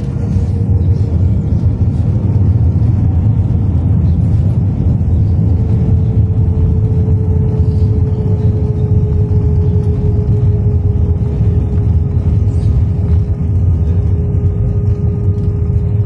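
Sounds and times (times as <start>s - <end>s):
engine and wheel rumble: 0.0s - 16.0s
faint steady whine: 0.0s - 16.0s.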